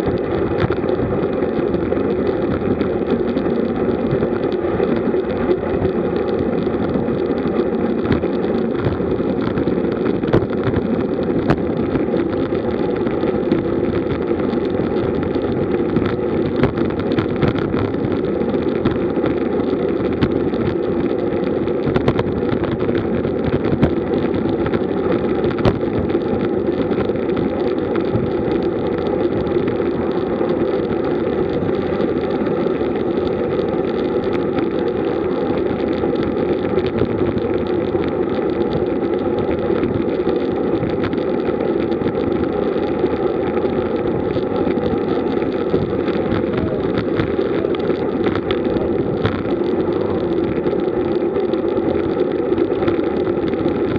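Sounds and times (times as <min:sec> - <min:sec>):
bicycle tyre noise: 0:00.0 - 0:53.9
rushing wind: 0:00.0 - 0:53.9.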